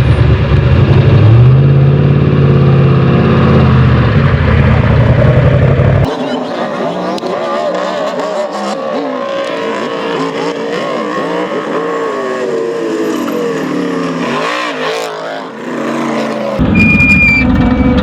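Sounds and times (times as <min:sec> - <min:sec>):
race vehicle engines revving: 0:00.0 - 0:18.0.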